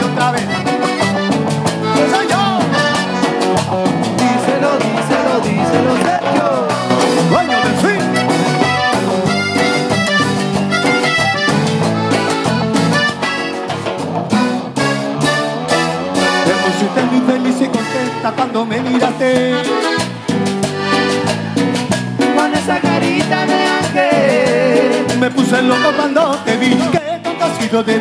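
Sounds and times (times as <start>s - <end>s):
accordion melody: 0.0s - 28.0s
percussion beat: 0.0s - 28.0s.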